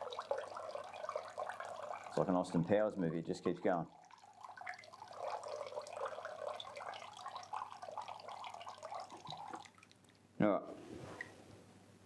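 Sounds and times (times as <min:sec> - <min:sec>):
water splashing into bucket: 0:00.0 - 0:10.1.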